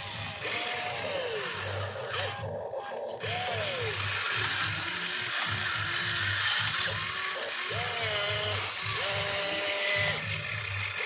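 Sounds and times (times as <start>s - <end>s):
electric motors whirring: 0.0s - 11.0s.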